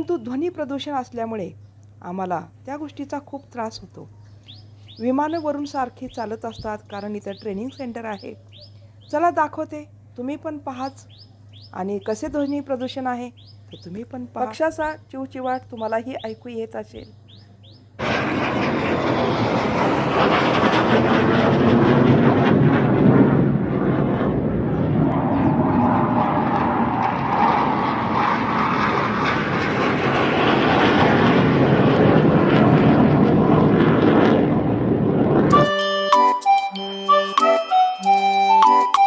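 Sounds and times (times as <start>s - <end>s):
aeroplane flying overhead: 0.0s - 36.3s.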